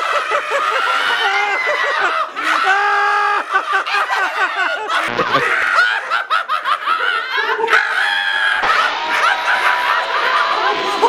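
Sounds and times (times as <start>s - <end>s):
group of people laughing: 0.0s - 11.0s.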